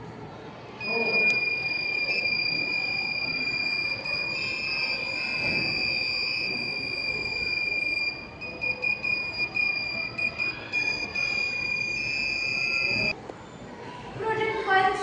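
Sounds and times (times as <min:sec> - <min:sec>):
buzzer beeping: 0:00.8 - 0:13.2.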